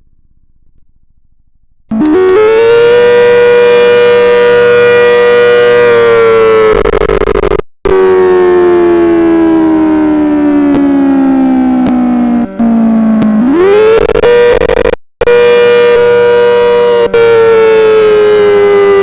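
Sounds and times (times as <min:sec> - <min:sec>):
outdoor warning siren wailing: 0:01.9 - 0:19.0.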